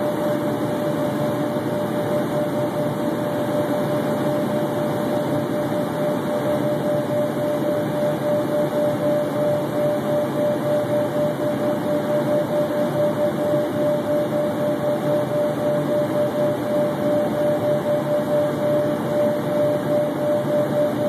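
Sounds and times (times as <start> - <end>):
jet cabin airflow and engines: 0.0 - 21.0
steady whine: 0.0 - 21.0.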